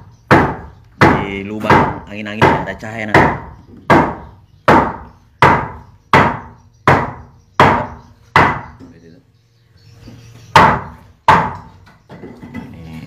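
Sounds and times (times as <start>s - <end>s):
loud knocks on wood: 0.3s - 8.9s, 10.5s - 12.6s.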